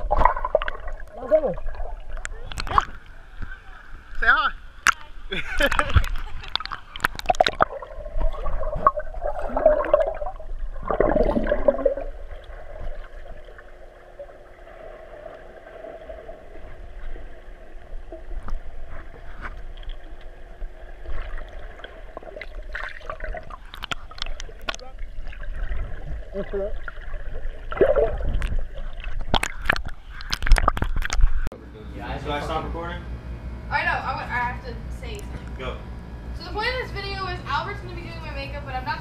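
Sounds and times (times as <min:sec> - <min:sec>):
underwater sloshing and gurgling: 0:00.0 - 0:31.5
dull underwater hum: 0:00.0 - 0:39.0.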